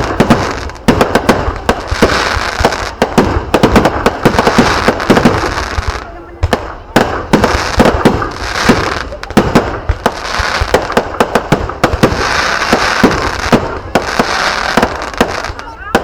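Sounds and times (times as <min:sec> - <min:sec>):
crackling hiss: 0:00.0 - 0:16.0
fireworks bangs: 0:00.0 - 0:16.0.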